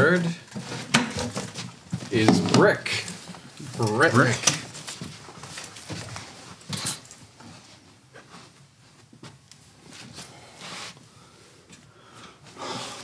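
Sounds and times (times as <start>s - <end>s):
people rustling and shuffling: 0.0s - 13.0s.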